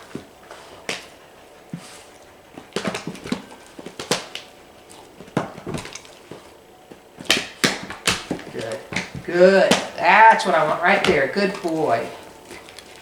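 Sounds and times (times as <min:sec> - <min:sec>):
dog's feet tapping and scuffing: 0:00.0 - 0:13.0.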